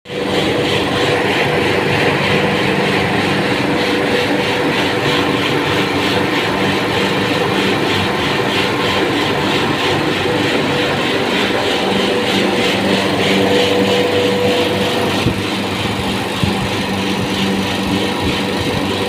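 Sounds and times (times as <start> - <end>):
condensing unit humming: 0.1 - 19.0.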